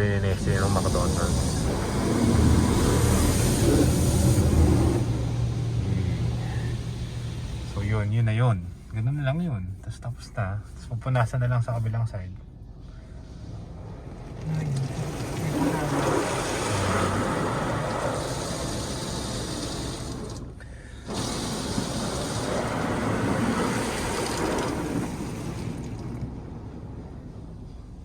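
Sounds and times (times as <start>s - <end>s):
water jets spraying car: 0.0s - 9.4s, 13.1s - 28.0s.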